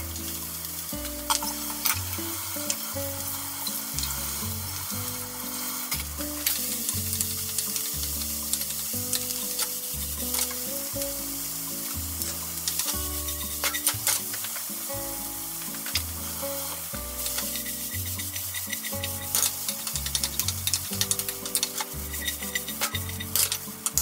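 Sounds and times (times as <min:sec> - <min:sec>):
food sizzling in a frying pan: 0:00.0 - 0:24.0
wooden spatula scraping a pan: 0:00.3 - 0:24.0.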